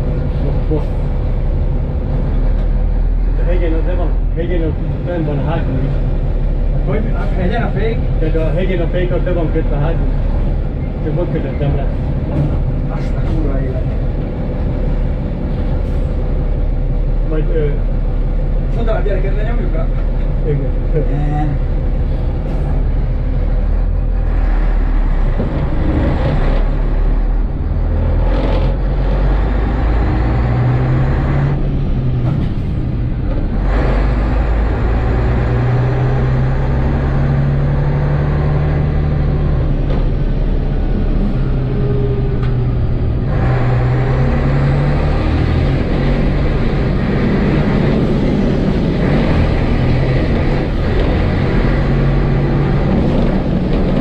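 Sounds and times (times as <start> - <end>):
diesel truck engine under load: 0.0 - 54.0.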